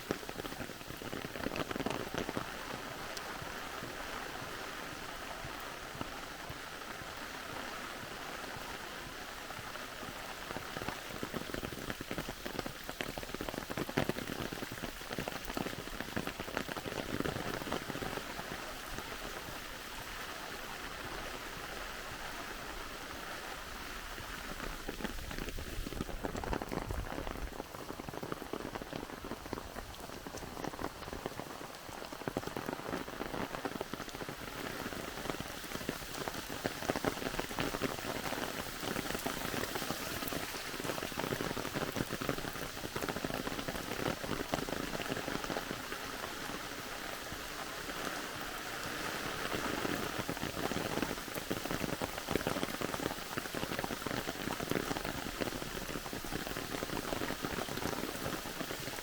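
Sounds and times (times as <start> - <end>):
rain drops pattering: 0.0 - 59.0.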